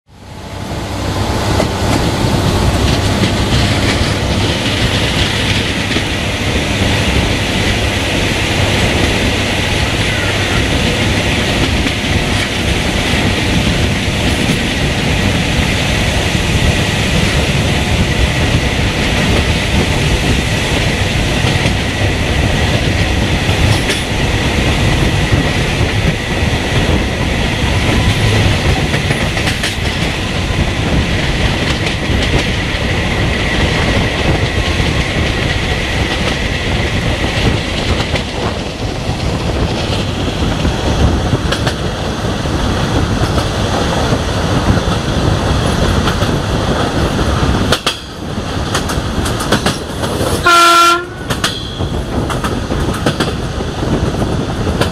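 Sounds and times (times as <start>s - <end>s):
train wheels clattering on track: 0.1s - 54.9s.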